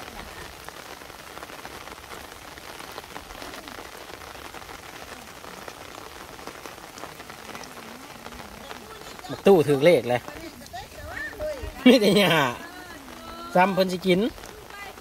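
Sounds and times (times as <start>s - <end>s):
rain falling on water: 0.0s - 15.0s.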